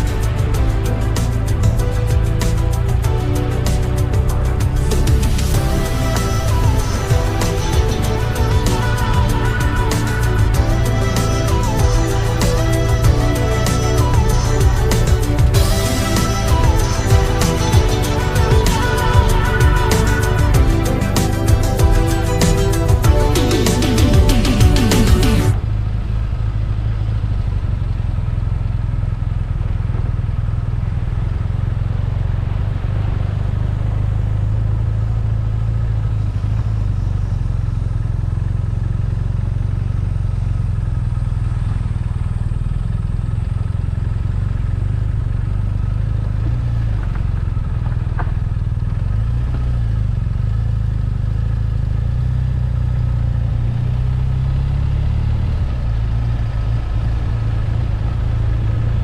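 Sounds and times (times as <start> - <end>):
motorcycle engine rumbling: 0.0 - 59.0
road noise: 0.0 - 59.0.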